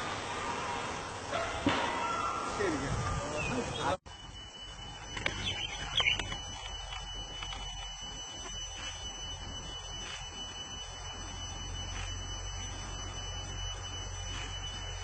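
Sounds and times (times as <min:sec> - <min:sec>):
high-pitched whine: 0:00.0 - 0:15.0
low hum: 0:00.0 - 0:15.0.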